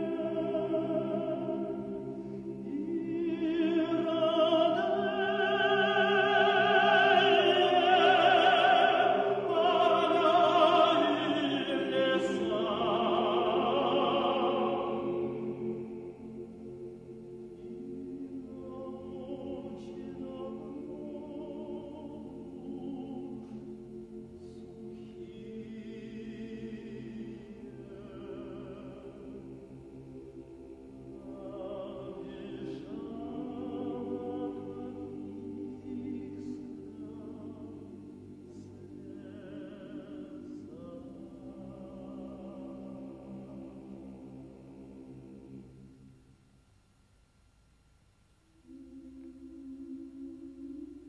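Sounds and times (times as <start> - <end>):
choir singing slow chords: 0.0 - 46.8, 48.3 - 51.0.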